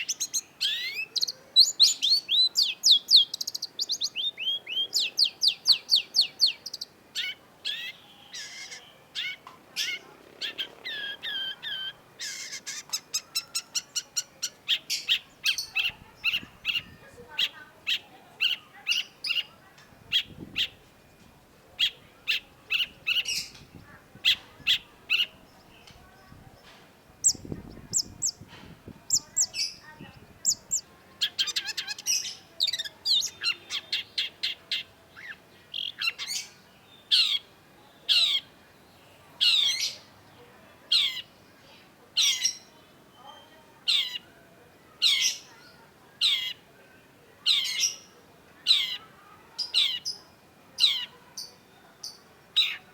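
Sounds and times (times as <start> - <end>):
bird harsh calls and chattering: 0.0 - 46.8, 47.4 - 52.9.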